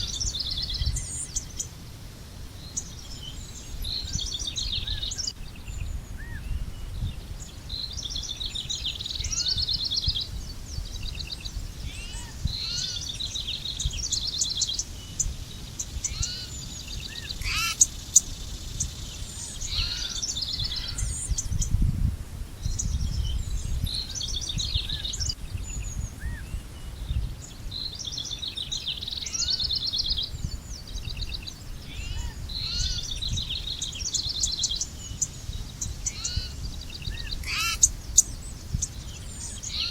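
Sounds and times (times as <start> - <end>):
low rumble of outdoor noise: 0.0 - 39.9
songbirds singing: 0.0 - 39.9.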